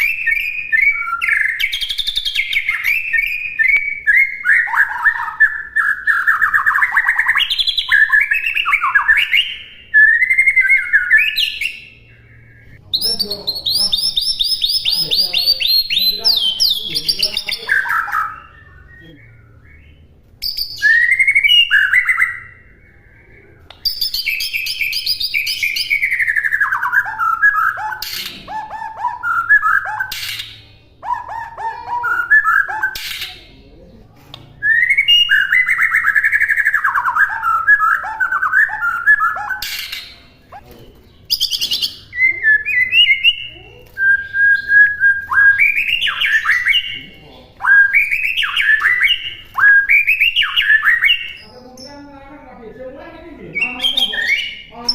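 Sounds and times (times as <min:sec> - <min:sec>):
bird singing whistled phrases: 0:00.0 - 0:33.6, 0:34.6 - 0:40.6, 0:41.3 - 0:52.0, 0:53.5 - 0:54.9.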